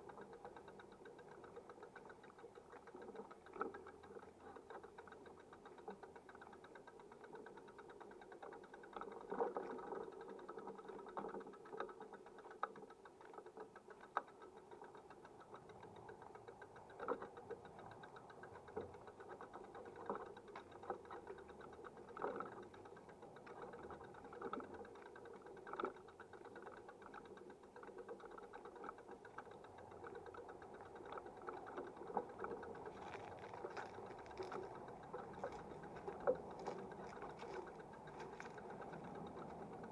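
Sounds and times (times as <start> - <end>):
fast fine rattle: 0.0 - 39.9
mechanical running noise: 0.0 - 39.9.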